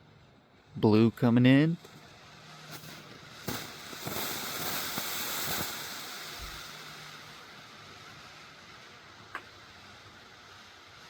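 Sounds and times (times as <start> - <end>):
smoke firework hissing: 0.0 - 11.0.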